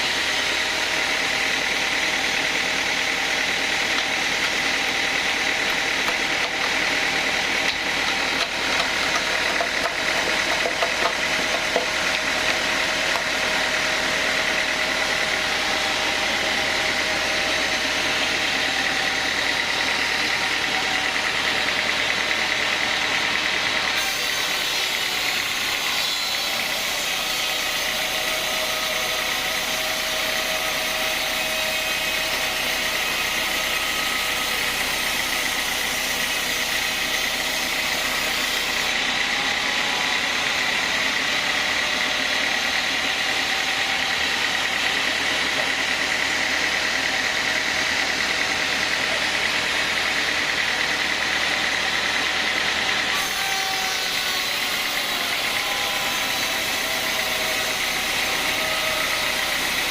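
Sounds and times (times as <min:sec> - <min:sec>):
band saw machinery running: 0:00.0 - 0:59.9.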